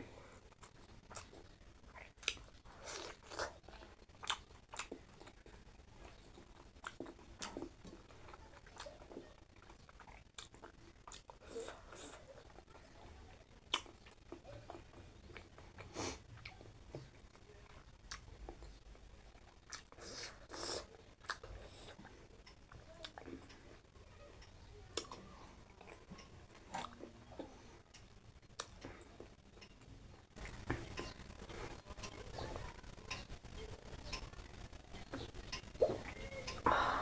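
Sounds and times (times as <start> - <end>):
person chewing food: 0.0 - 12.9, 13.6 - 37.0.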